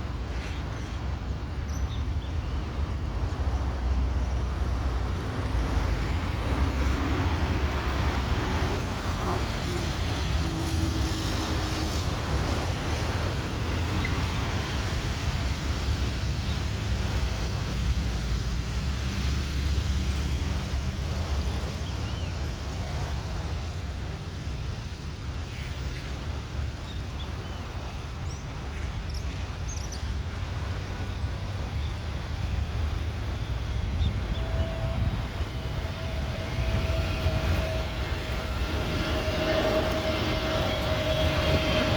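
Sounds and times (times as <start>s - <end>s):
jet airliner rumble: 0.0s - 41.9s
wind buffeting microphone: 0.0s - 41.9s.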